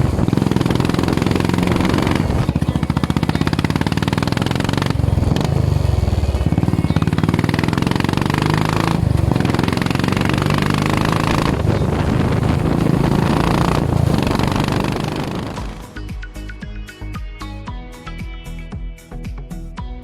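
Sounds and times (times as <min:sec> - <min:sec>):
motorcycle engine firing beat: 0:00.0 - 0:17.5
guitar music: 0:00.0 - 0:20.0.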